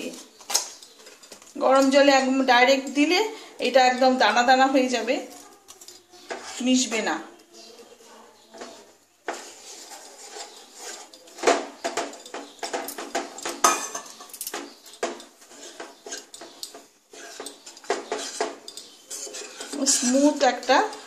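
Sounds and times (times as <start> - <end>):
metal spoon stirring in bowl: 0.0 - 21.0.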